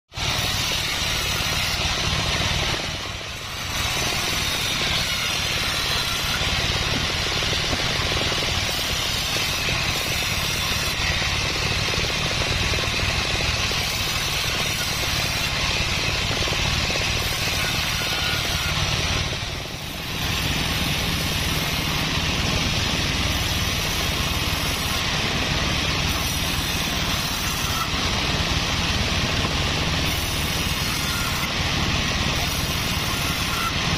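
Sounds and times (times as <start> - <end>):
band saw ripping timber: 0.1 - 33.9.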